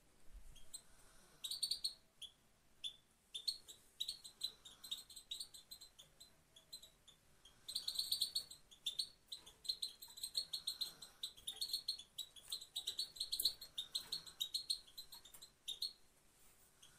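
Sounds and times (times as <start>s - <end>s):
goldfinch chirping: 0.6s - 16.1s.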